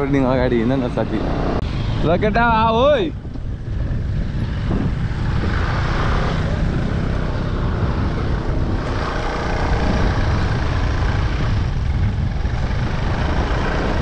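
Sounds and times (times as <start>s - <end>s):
motorcycle engines running: 0.0s - 14.0s
wind buffeting microphone: 0.0s - 14.0s.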